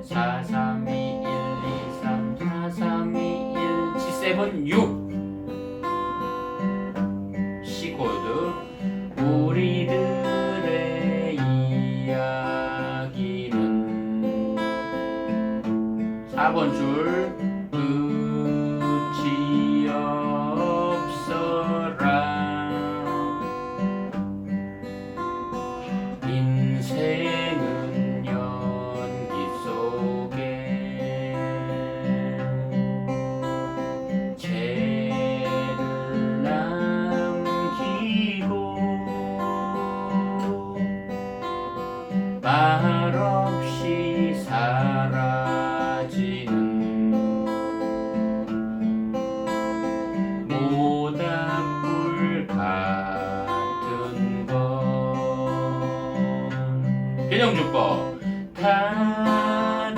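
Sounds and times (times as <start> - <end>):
person singing: 0.0 - 5.2, 7.6 - 15.6, 16.3 - 23.8, 25.8 - 33.1, 33.7 - 41.8, 42.4 - 48.6, 50.2 - 59.9
fingerpicked acoustic guitar: 0.0 - 59.9.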